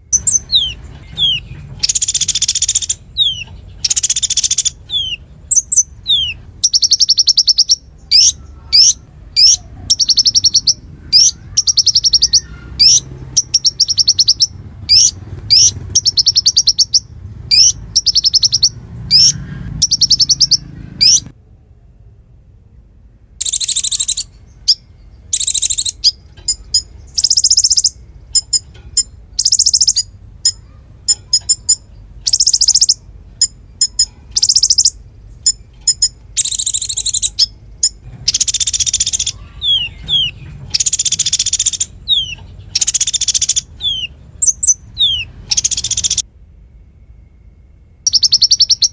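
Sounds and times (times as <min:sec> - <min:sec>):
songbird singing whistles and trills: 0:00.0 - 0:21.3, 0:23.4 - 0:46.3, 0:48.0 - 0:48.9.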